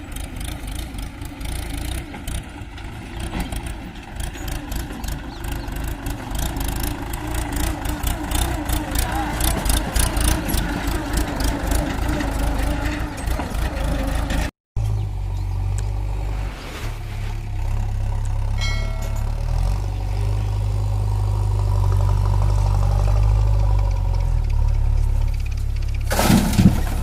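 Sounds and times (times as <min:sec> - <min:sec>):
tractor diesel engine rumble: 0:00.0 - 0:27.0.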